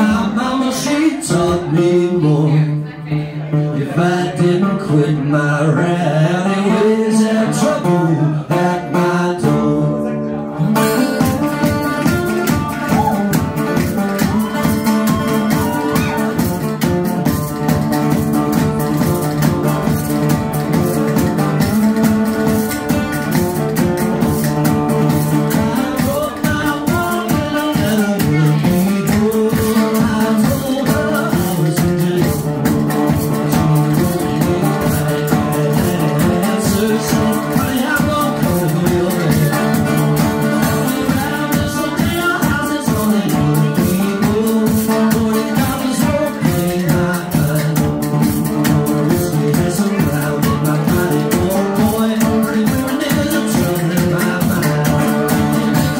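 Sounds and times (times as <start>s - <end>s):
banjo: 0.0s - 55.9s
bass drum beat: 10.8s - 55.9s.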